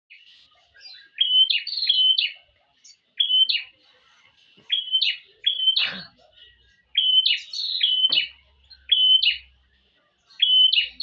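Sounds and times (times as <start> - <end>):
bird chirping: 0.1 - 11.0.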